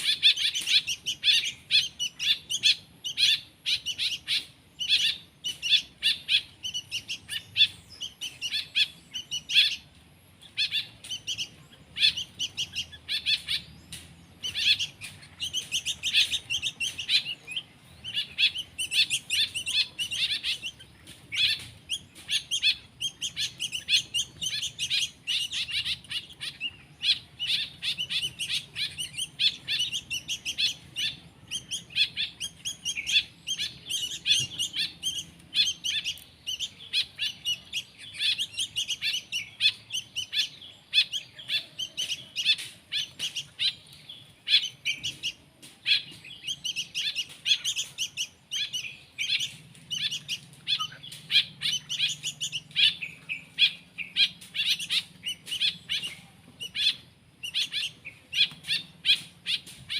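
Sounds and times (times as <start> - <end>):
songbird chicks chirping: 0.0 - 59.9.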